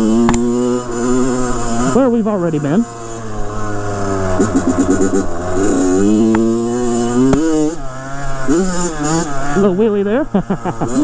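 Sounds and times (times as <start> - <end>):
two-stroke engine revving: 0.0 - 11.0.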